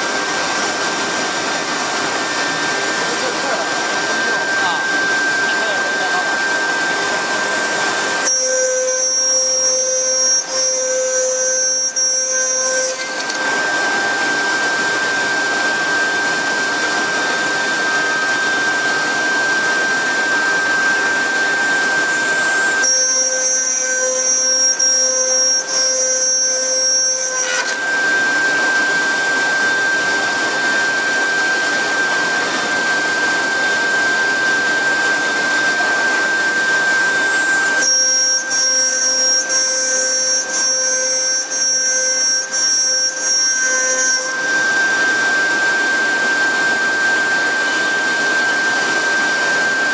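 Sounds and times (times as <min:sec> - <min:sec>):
cnc router spindle whine: 0:00.0 - 0:49.9.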